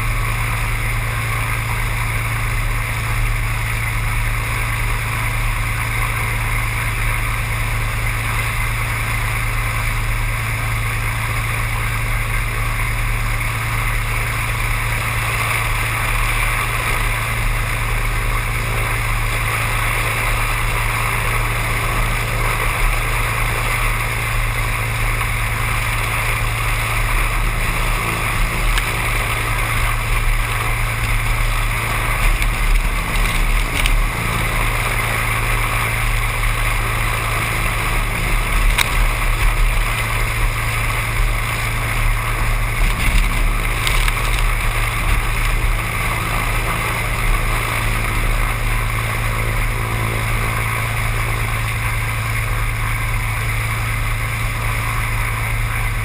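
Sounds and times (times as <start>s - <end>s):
seaplane engine droning: 0.0s - 56.0s.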